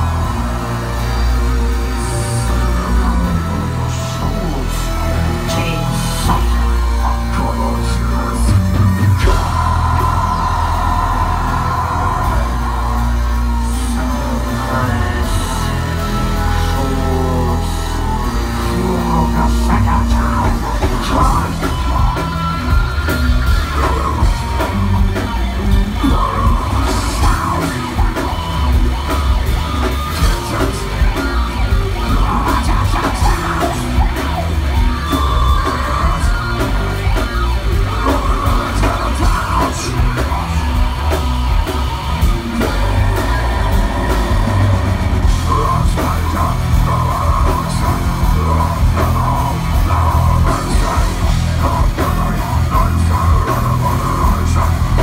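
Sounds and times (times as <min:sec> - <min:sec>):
heavy metal rock band: 0:00.0 - 0:55.0.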